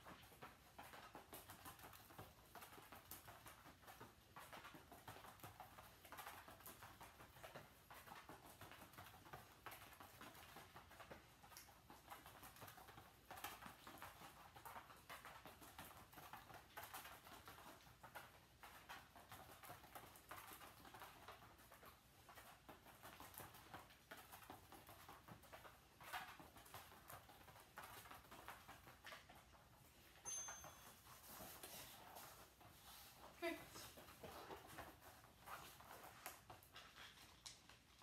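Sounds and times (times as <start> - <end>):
dog paws pattering on floor: 0.0 - 38.0.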